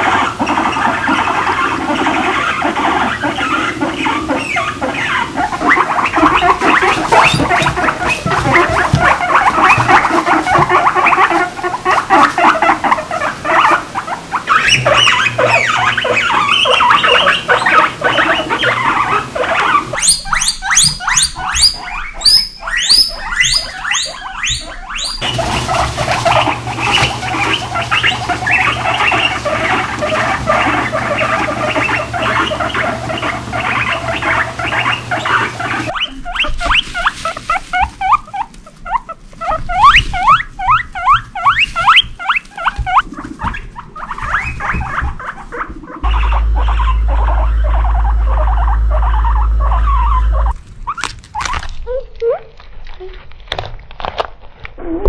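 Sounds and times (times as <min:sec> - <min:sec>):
guinea pigs squeaking and chirping: 0:00.0 - 0:55.0
guinea pigs wheeking: 0:00.0 - 0:55.0.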